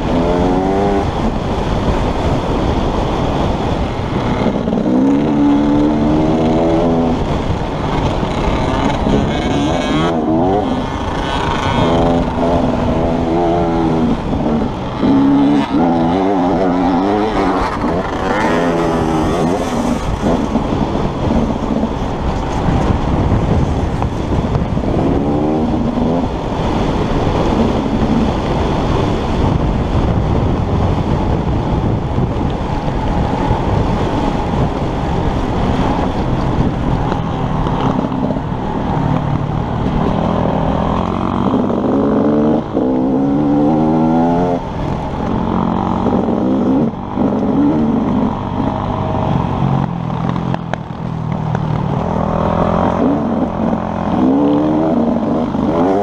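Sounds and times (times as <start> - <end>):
dirt bike engine revving: 0.0 - 29.6, 32.8 - 50.7, 51.3 - 56.0
wind noise: 0.0 - 56.0.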